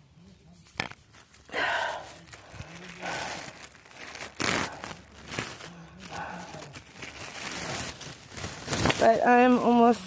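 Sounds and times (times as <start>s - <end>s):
yard debris crinkling and rustling: 0.4s - 10.0s.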